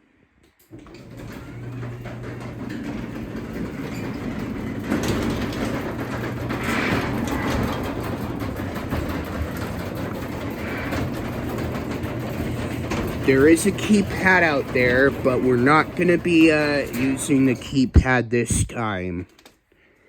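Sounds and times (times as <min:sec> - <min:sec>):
garage door opener motor hum: 0:00.4 - 0:18.0
garage door rattling on tracks: 0:00.6 - 0:18.1.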